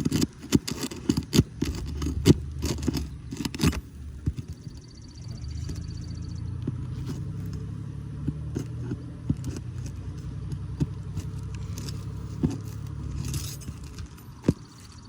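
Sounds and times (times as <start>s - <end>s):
hand tools prying roofing nails: 0.0s - 15.0s
steady low hum: 0.0s - 15.0s.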